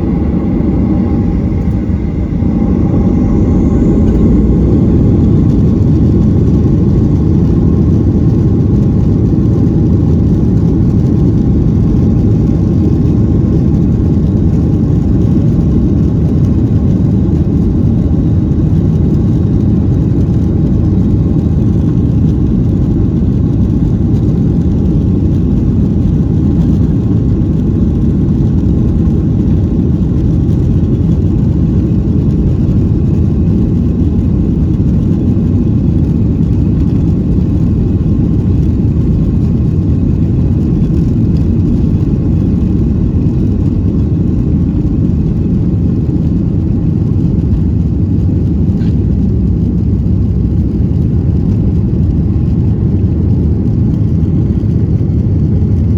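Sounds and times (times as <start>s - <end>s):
faint whine: 0.0s - 55.9s
jet engine cabin rumble: 0.0s - 55.9s.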